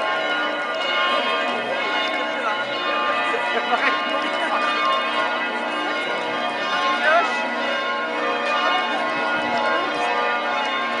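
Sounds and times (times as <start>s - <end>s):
church bells pealing: 0.0s - 11.0s
crowd chatter: 0.0s - 11.0s.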